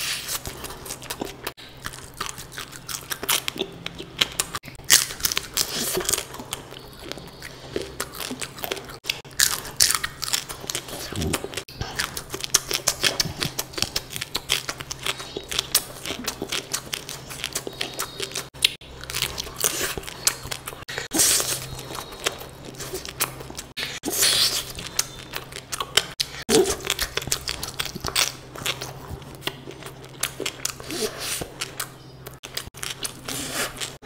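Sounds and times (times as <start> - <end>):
person chewing crunchy food: 0.0 - 34.0.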